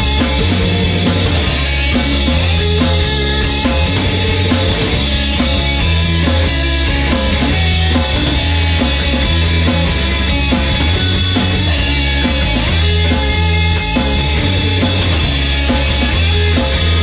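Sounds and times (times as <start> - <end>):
low bass line: 0.0 - 17.0
rock band with guitar: 0.0 - 17.0.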